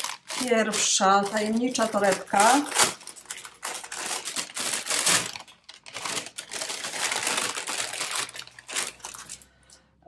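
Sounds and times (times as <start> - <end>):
packaging bag crinkling: 0.0 - 9.5.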